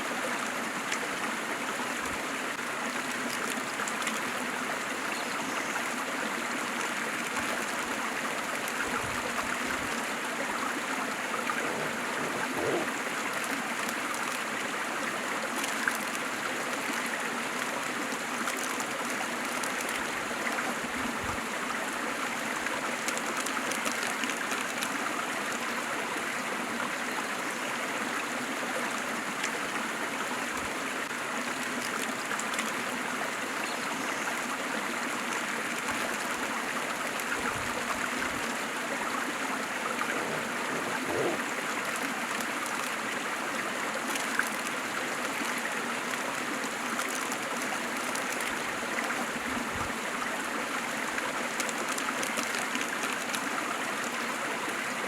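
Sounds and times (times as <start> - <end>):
waterfall and stream rushing: 0.0 - 55.0.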